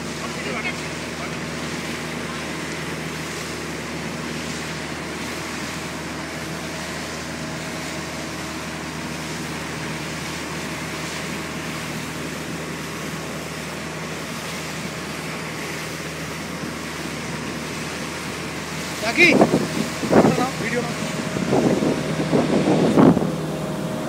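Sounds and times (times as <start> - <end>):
speedboat engine drone: 0.0 - 24.0
wind and water rushing: 0.0 - 24.0.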